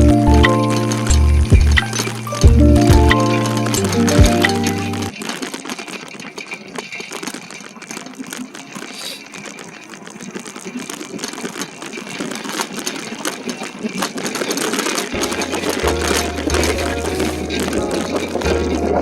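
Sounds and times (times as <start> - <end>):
bicycle rattling and clicking: 0.0 - 19.0.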